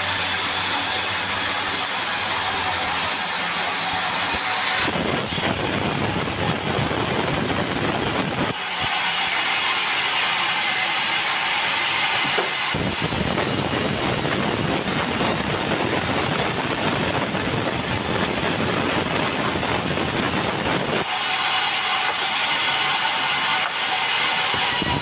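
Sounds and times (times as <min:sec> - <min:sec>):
bandsaw machinery running: 0:00.0 - 0:25.0.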